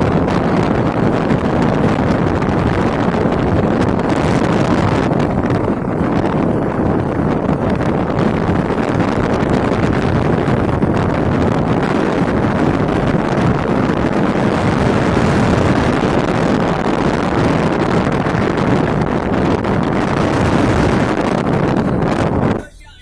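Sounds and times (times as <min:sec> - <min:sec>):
car engine and tyre rumble: 0:00.0 - 0:23.0
wind buffeting microphone: 0:00.0 - 0:23.0.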